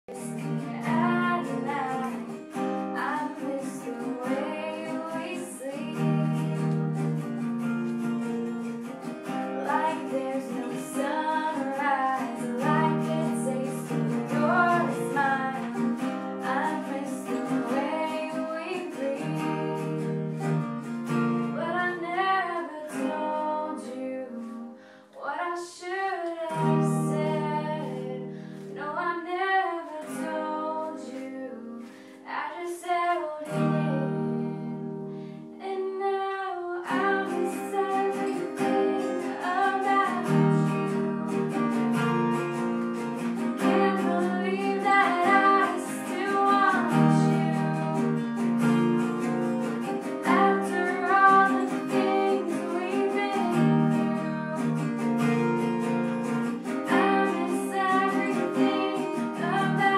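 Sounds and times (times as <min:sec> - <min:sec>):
woman singing: 0:00.0 - 0:07.3, 0:09.2 - 0:20.6, 0:21.4 - 0:42.0, 0:43.0 - 0:59.9
acoustic guitar strumming: 0:00.1 - 0:25.0, 0:26.4 - 0:32.4, 0:36.7 - 0:59.9.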